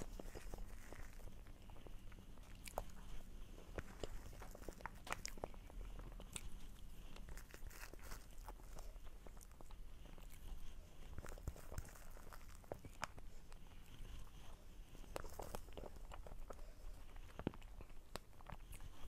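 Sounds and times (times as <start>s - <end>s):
wet chewing mouth sounds: 0.0s - 19.0s.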